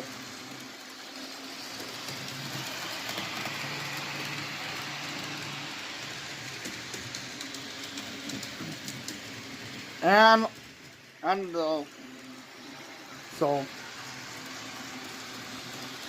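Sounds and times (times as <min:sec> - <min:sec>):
model train motor hum: 0:00.0 - 0:16.0
wheels rolling over rails: 0:00.0 - 0:16.0.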